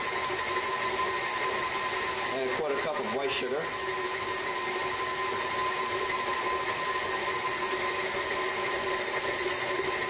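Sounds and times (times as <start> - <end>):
stand mixer motor whine: 0.0 - 10.0.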